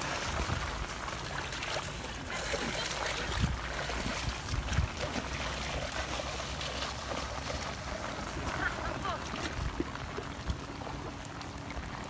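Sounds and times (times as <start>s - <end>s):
feet wading through water: 0.0s - 12.0s.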